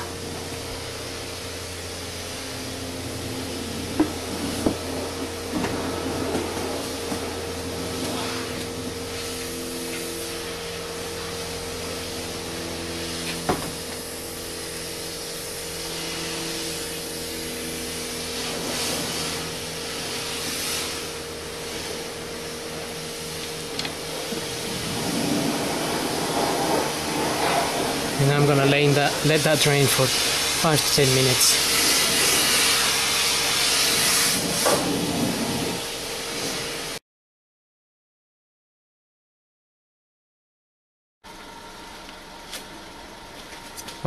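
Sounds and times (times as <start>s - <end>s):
steady mechanical hum: 0.0s - 37.0s, 41.2s - 44.0s.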